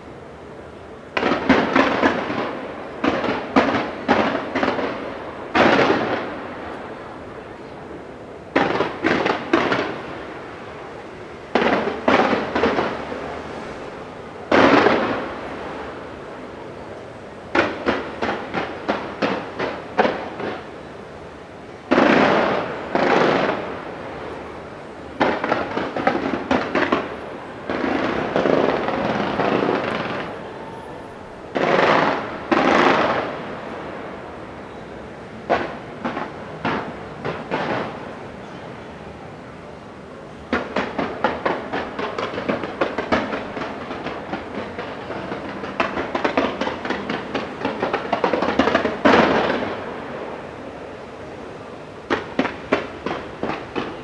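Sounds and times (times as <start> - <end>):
fireworks bangs and crackling: 1.0 - 54.0
booming firework bursts: 1.1 - 16.8, 17.5 - 21.2, 21.8 - 38.3, 40.4 - 51.4, 52.0 - 54.0.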